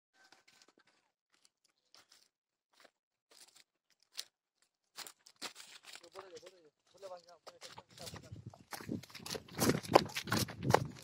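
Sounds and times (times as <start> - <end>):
footsteps crunching dry straw: 0.2 - 11.0.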